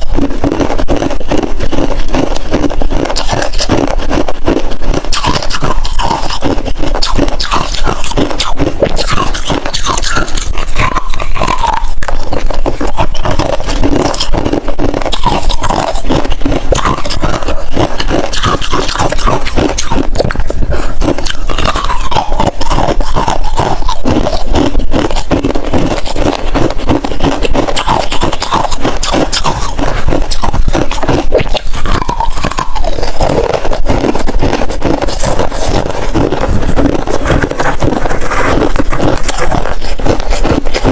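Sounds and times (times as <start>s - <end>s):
freezer ice crunching: 0.0s - 40.9s
squeaky ice scraping: 5.0s - 40.9s.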